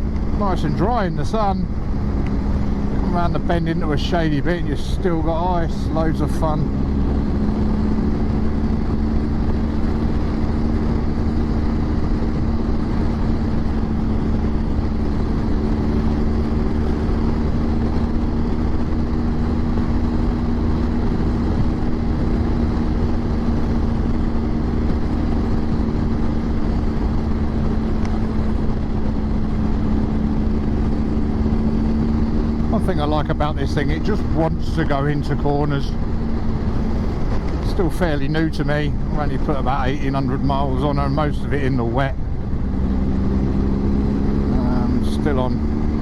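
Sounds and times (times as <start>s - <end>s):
motorcycle engine drone: 0.0s - 46.0s
wind rumble: 0.0s - 46.0s.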